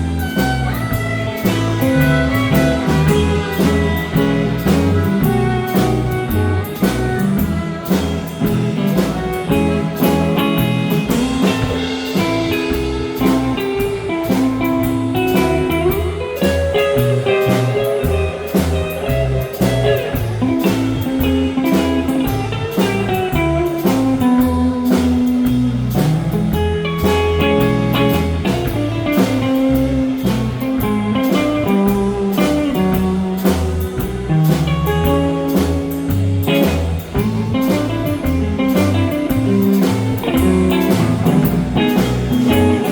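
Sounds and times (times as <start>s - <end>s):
drum kit beat: 0.0s - 42.9s
guitar: 0.0s - 42.9s.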